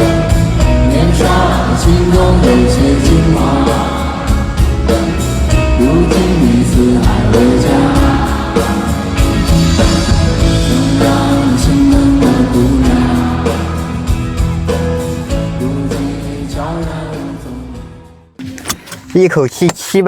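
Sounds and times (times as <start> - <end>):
pop song with singing: 0.0 - 14.6, 15.2 - 18.1.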